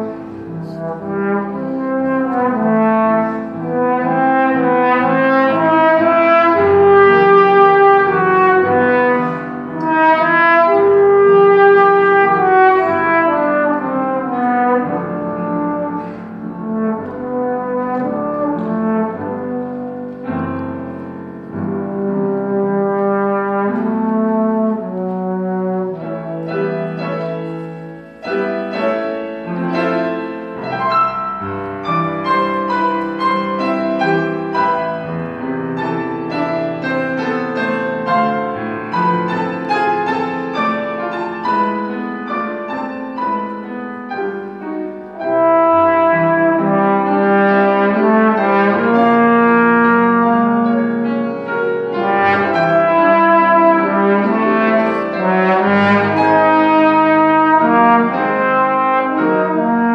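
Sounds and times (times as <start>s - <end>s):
trombone: 0.0s - 44.4s, 45.1s - 59.9s
piano playing quick notes: 0.0s - 59.9s.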